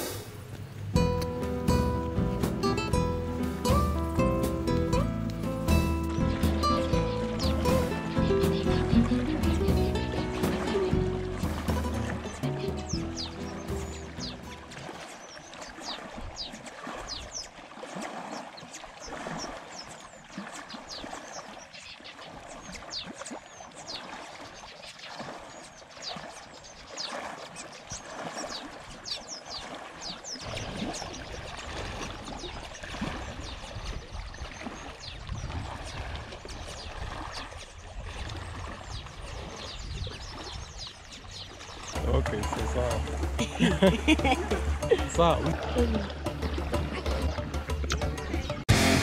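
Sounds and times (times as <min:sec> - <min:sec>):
birds chirping: 0:00.0 - 0:49.0
lake water lapping on shore: 0:00.0 - 0:49.0.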